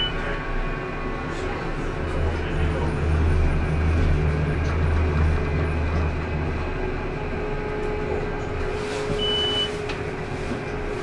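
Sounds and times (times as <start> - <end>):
deep low drone: 0.0 - 11.0
tram running gear hum: 0.0 - 11.0.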